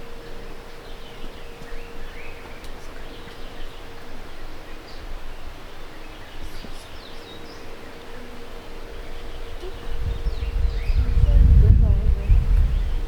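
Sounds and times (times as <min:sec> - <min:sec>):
bird chirps: 0:00.0 - 0:11.6
faint steady hum: 0:00.0 - 0:13.0
steady background hiss: 0:00.0 - 0:13.0.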